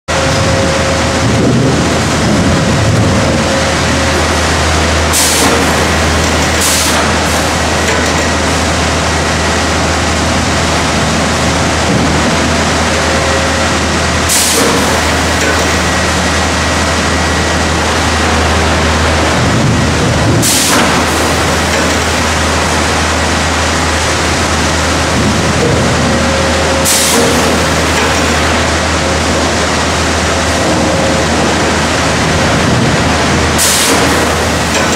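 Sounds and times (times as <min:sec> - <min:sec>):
log conveyor running: 0:00.1 - 0:34.9.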